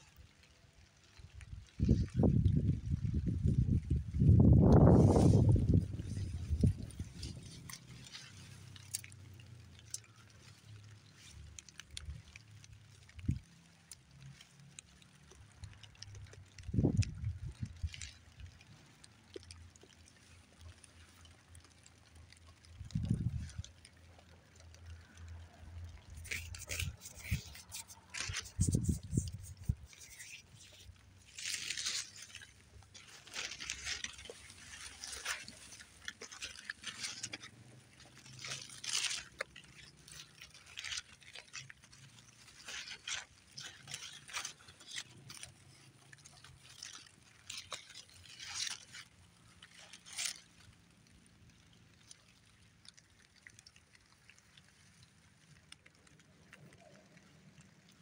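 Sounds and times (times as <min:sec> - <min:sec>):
berry bushes rustling: 0:00.0 - 0:57.8.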